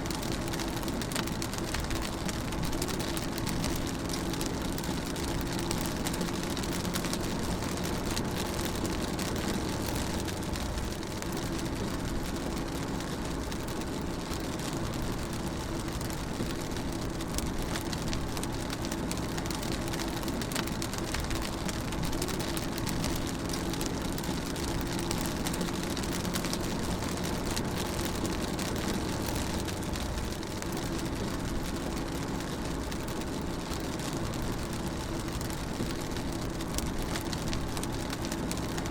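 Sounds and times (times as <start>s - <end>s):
rain drumming on a car: 0.0s - 38.9s.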